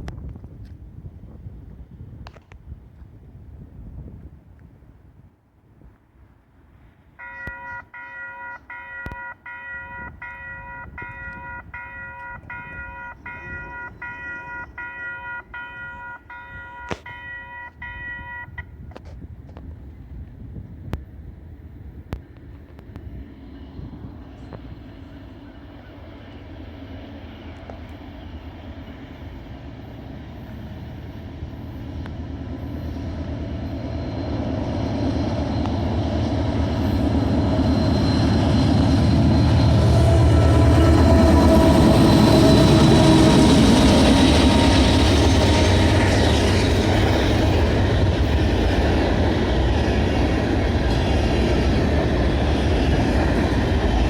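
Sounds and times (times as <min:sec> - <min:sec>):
diesel locomotive engine: 0:06.4 - 0:54.0.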